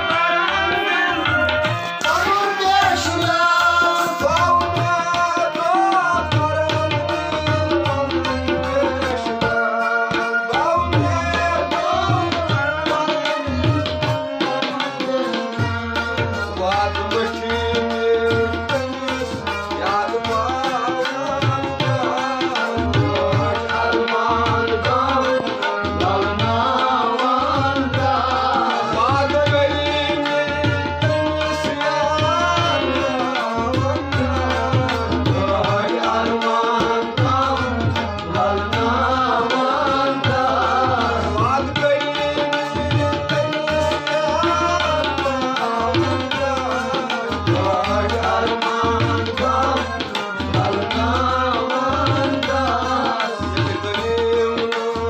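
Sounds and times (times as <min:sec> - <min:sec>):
hand drum rhythm: 0:00.0 - 0:55.0
harmonium playing folk melody: 0:00.0 - 0:55.0.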